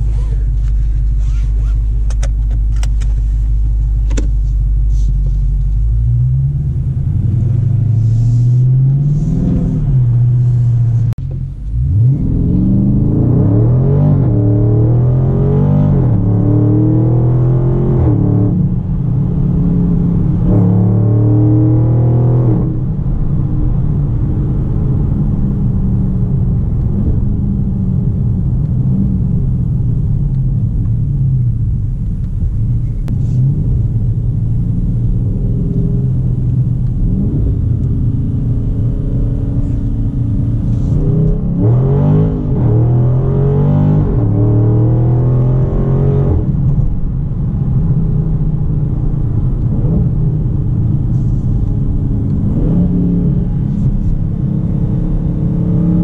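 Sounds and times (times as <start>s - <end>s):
car engine and exhaust: 0.0s - 56.0s.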